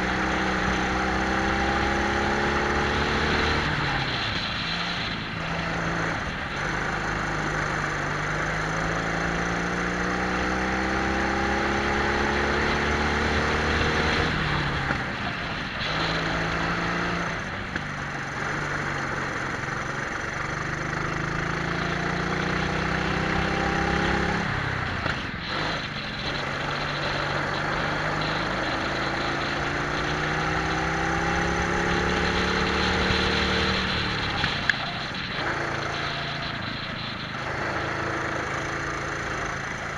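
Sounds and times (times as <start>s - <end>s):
two-stroke kart engines revving: 0.0s - 39.9s.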